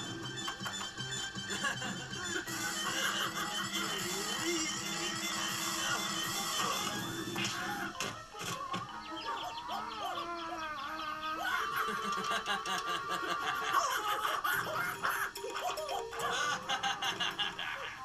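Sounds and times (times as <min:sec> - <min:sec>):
cartoon background music: 0:00.0 - 0:18.0
character snickering and giggling: 0:00.0 - 0:18.0.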